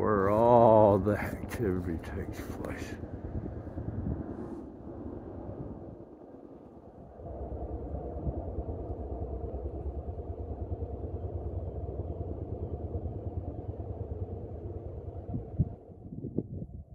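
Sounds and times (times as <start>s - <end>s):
helicopter flying overhead: 0.0s - 16.9s.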